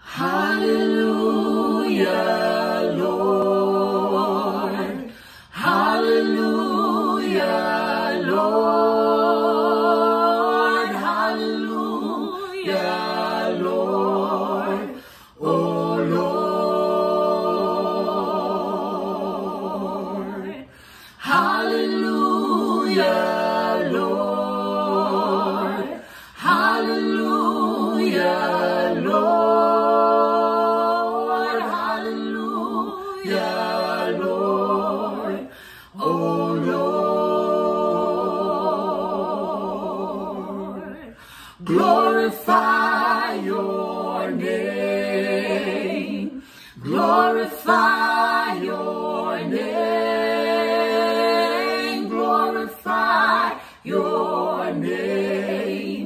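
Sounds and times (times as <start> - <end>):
vocal group singing in harmony: 0.0 - 56.0.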